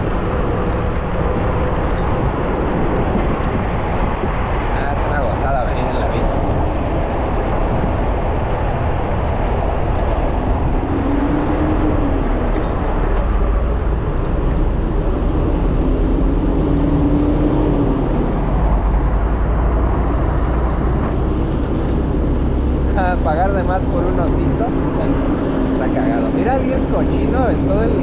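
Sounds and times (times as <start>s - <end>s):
road traffic: 0.0s - 28.0s
wind rush on microphone: 0.0s - 28.0s.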